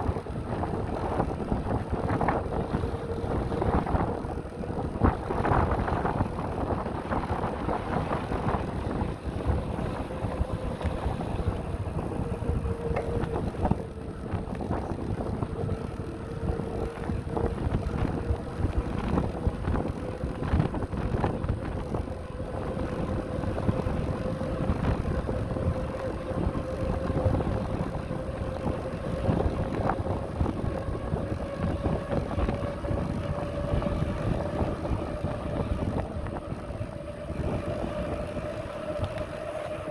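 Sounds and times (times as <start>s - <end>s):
bicycle tyre rumble: 0.0s - 39.9s
wind buffeting microphone: 0.0s - 39.9s.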